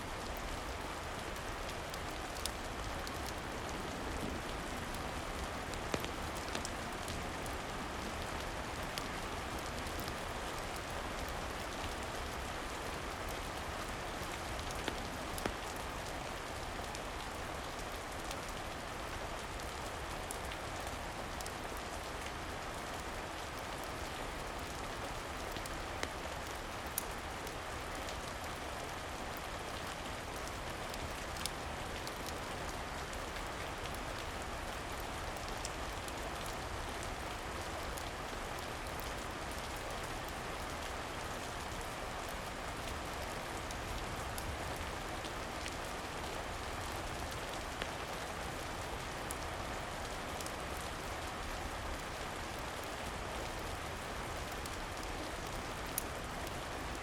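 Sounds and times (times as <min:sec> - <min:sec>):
steady rain falling: 0:00.0 - 0:57.0
wood fire crackles: 0:00.1 - 0:52.1, 0:53.1 - 0:57.0.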